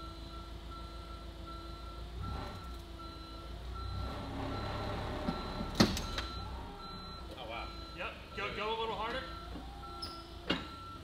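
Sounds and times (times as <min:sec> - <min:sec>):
forklift reversing alarm beeping: 0:00.0 - 0:11.0.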